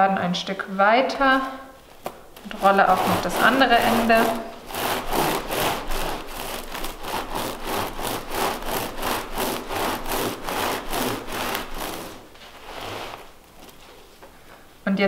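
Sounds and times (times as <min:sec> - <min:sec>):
bamboo mat rasping: 0:01.8 - 0:14.0.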